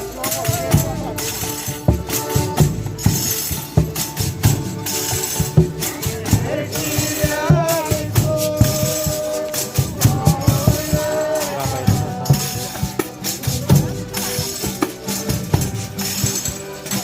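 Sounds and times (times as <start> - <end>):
tambourines shaken and struck: 0.0 - 17.0.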